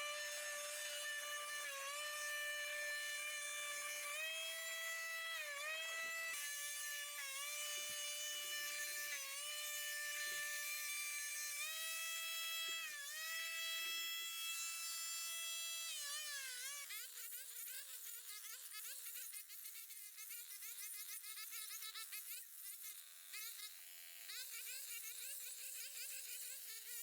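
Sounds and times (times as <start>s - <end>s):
small motor whining: 0.0s - 27.0s.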